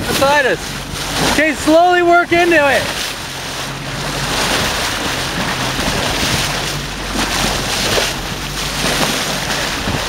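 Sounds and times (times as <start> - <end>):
water washing past hull: 0.0 - 10.0
wind buffeting microphone: 0.0 - 10.0.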